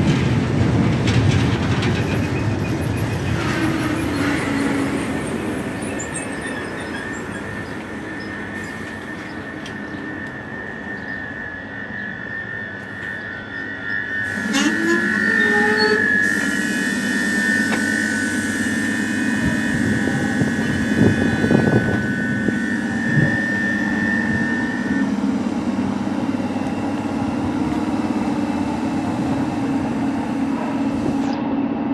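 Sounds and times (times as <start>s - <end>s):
electric train humming: 0.0s - 31.9s
high steady whine: 3.0s - 31.5s.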